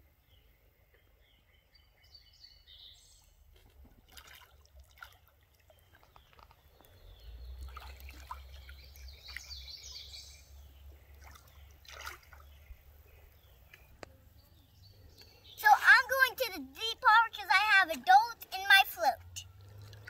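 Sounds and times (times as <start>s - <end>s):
birds chirping: 0.2s - 3.4s, 5.6s - 19.4s
creek trickling: 2.8s - 20.0s.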